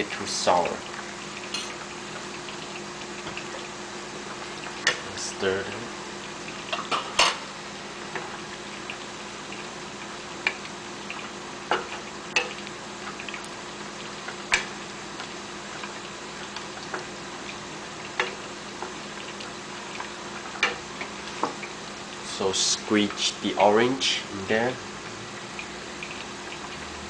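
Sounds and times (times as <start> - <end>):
sauce sizzling: 0.1 - 27.0.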